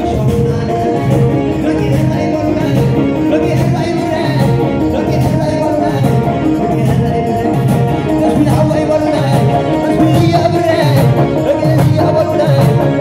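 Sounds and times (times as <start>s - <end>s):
live band playing dance music: 0.0s - 13.0s
person singing: 0.0s - 13.0s.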